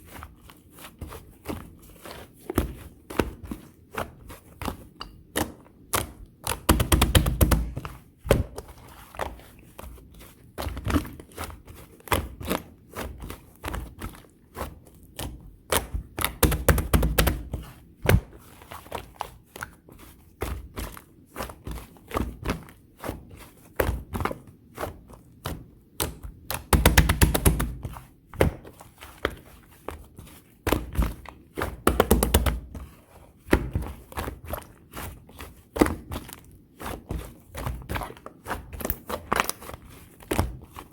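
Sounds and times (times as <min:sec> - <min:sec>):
dull slime squishes: 0:00.0 - 0:40.9.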